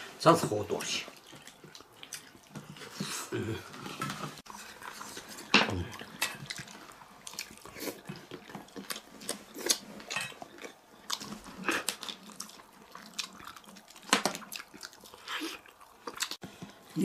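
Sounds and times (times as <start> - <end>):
man chewing meat off bone: 1.1 - 16.9.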